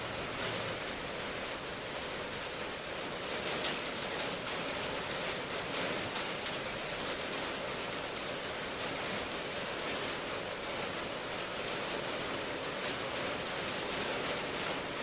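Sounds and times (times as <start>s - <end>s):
steady rain patter: 0.0s - 15.0s.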